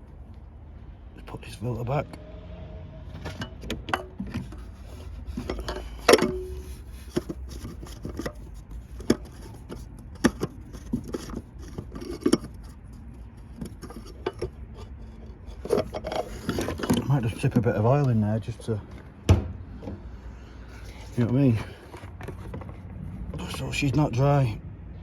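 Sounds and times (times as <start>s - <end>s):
oil filter parts clicking and clinking: 3.1s - 20.0s, 20.6s - 24.3s.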